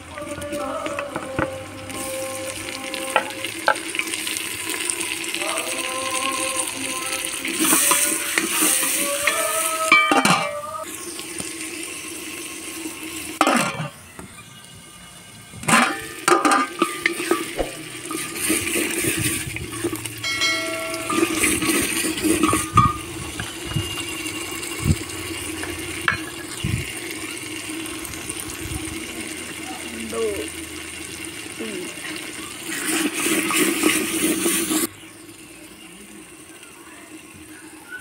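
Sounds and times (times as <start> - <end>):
tomatoes frying in oil: 0.0 - 13.4, 15.8 - 38.0.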